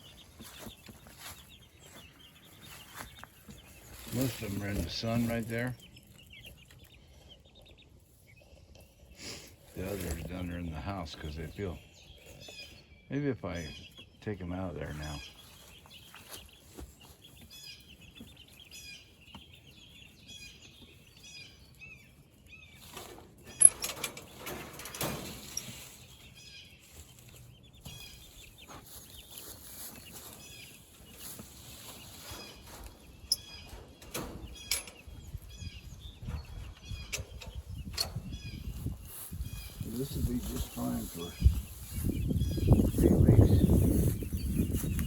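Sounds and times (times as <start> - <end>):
wings flapping and scuffling: 0.0 - 7.0, 8.8 - 12.6, 14.8 - 45.0
chickens peeping: 0.0 - 45.0.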